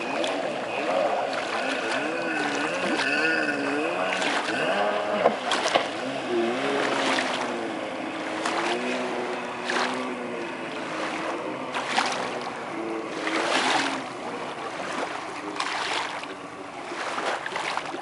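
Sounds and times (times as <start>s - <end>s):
hull slapping water: 0.0s - 18.0s
jet ski engine revving: 0.0s - 18.0s.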